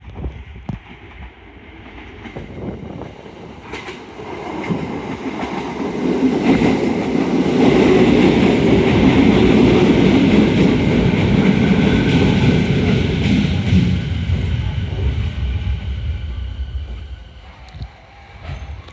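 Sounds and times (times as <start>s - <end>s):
electric train approaching on rails: 0.0s - 18.9s.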